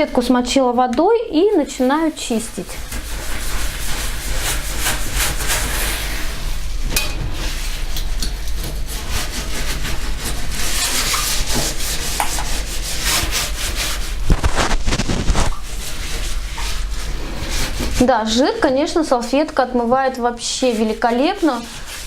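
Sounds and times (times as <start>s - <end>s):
cloth scrubbing a stovetop: 0.0s - 22.0s.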